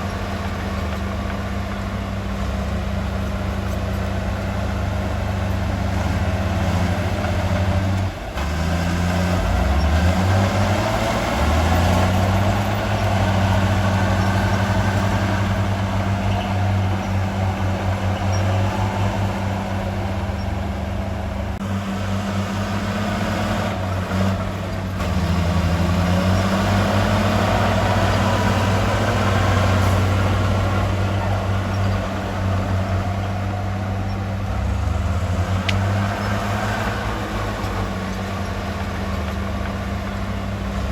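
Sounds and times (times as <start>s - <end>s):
heavy diesel engine revving: 0.0s - 40.9s.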